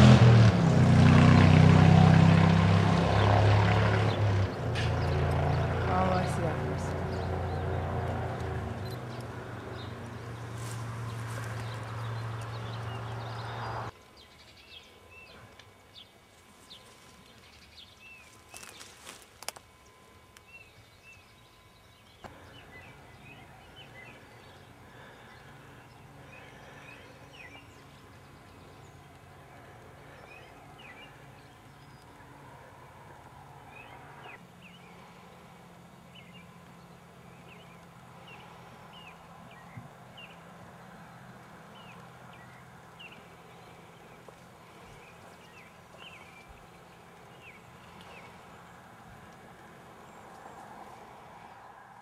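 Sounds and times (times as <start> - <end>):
low hum: 0.0 - 52.0
bird chirping: 4.0 - 19.0, 19.7 - 33.0, 33.6 - 48.9.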